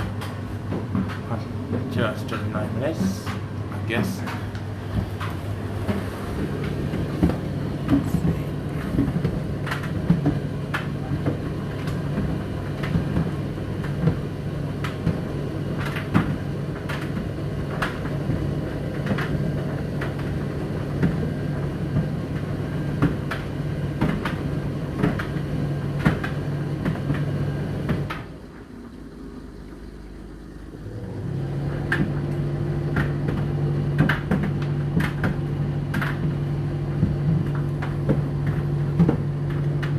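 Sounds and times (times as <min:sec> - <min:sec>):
tumble dryer motor hum: 0:00.0 - 0:39.9.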